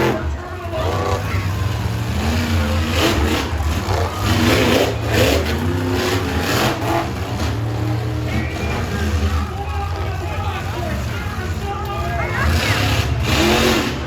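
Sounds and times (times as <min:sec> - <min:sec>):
truck engine revving loudly: 0:00.0 - 0:14.0.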